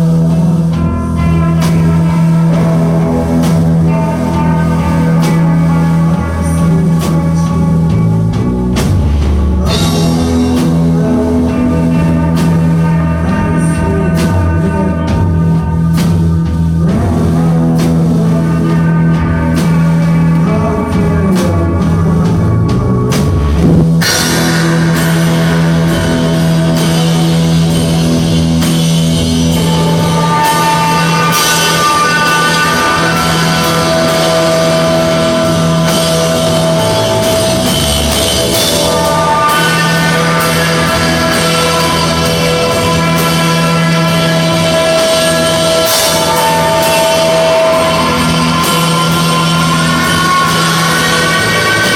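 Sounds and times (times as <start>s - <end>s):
drums and cymbals: 0.0s - 51.9s
live rock band playing: 0.0s - 51.9s.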